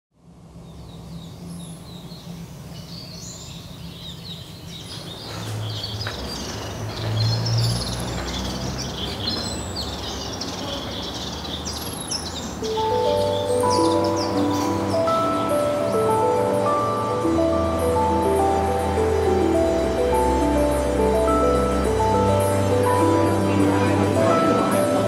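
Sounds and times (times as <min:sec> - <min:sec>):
birds chirping: 0:00.5 - 0:25.0.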